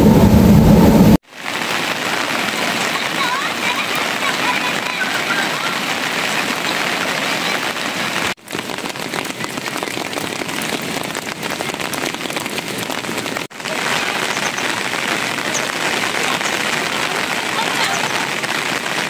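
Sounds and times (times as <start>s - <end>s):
steady rain falling: 1.0s - 19.0s.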